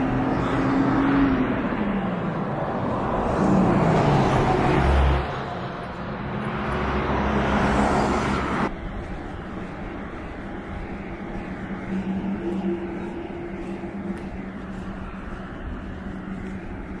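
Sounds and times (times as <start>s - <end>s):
road noise rushing: 0.0s - 17.0s.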